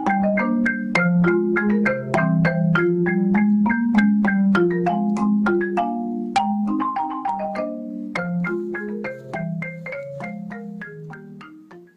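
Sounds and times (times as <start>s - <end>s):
mallet instrument melody: 0.0s - 11.9s.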